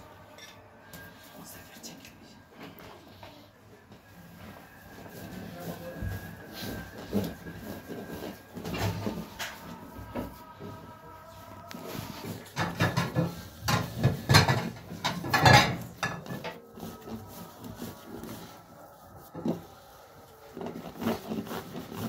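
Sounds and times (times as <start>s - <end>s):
hands kneading squelching mixture: 3.4s - 22.0s.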